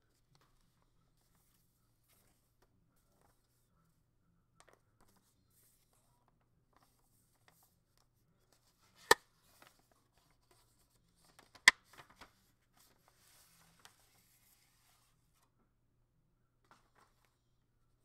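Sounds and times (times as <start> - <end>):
paper rustling: 0.1 - 3.7, 4.7 - 15.5, 16.7 - 17.4.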